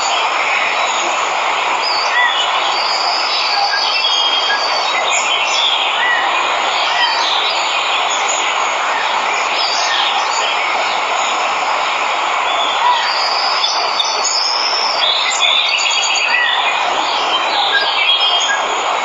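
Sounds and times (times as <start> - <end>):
birds chirping: 0.0 - 19.0
waterfall rushing: 0.0 - 19.0.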